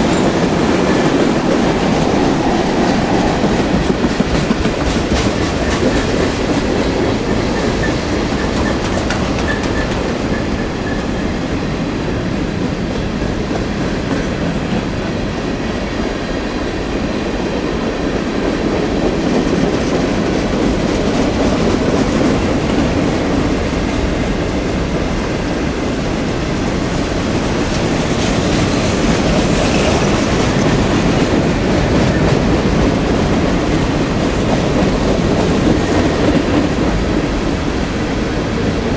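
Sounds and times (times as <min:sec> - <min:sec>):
freight train cars rolling past: 0:00.0 - 0:38.9.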